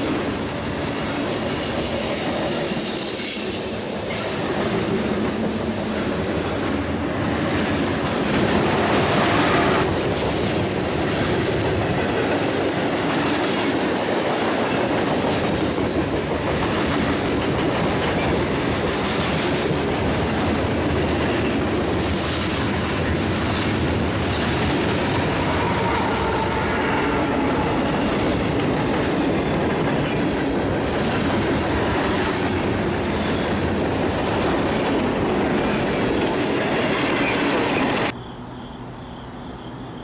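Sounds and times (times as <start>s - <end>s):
train wheels rumbling on rail: 0.0s - 38.2s
clickety-clack of rail joints: 4.0s - 26.4s, 27.5s - 38.2s.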